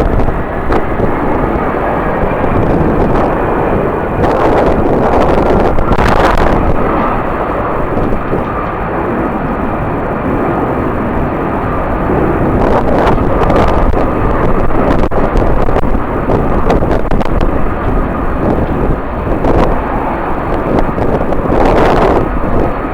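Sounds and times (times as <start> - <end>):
jet engines whining: 0.0 - 22.9
wind buffeting microphone: 0.0 - 22.9.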